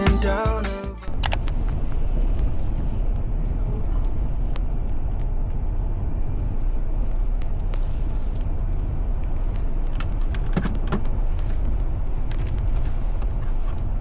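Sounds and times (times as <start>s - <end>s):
traffic rumble: 1.1s - 14.0s.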